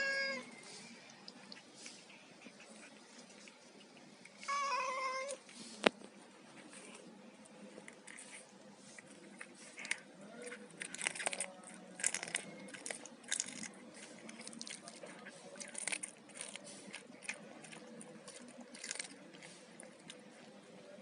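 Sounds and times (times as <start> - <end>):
cat chewing and crunching: 0.0 - 21.0.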